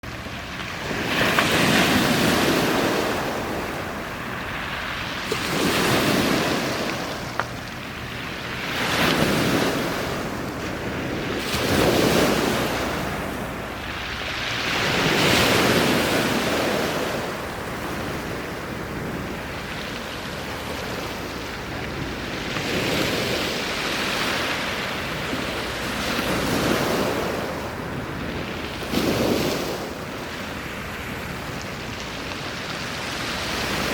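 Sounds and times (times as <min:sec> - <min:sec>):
sea waves breaking on beach: 0:00.0 - 0:33.9.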